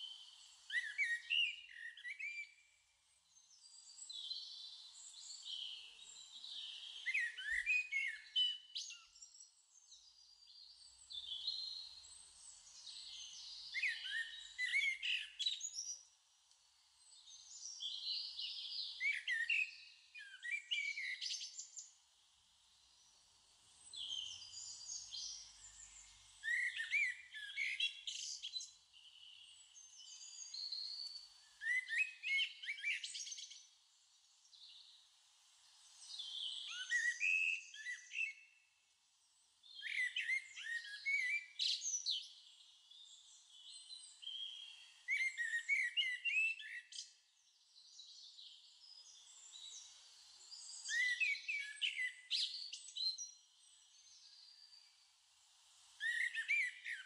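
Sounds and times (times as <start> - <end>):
birdsong chirps and whistles: 0.0 - 57.0.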